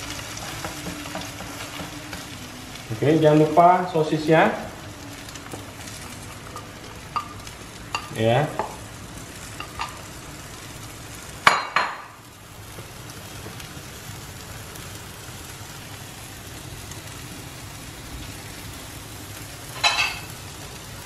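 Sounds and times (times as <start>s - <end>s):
food sizzling in frying pan: 0.0s - 21.0s.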